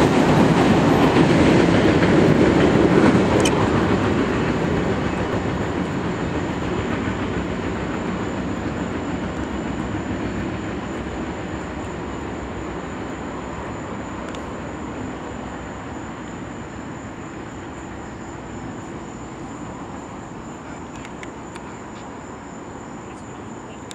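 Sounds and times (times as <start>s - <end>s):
freight train rumbling and rattling: 0.0s - 23.9s.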